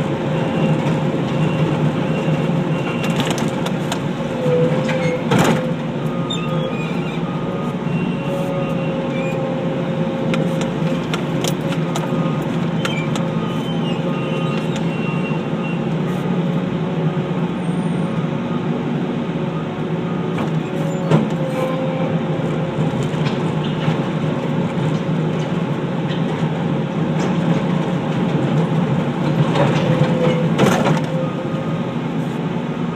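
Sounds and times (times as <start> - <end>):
loader engine running: 0.0 - 32.9.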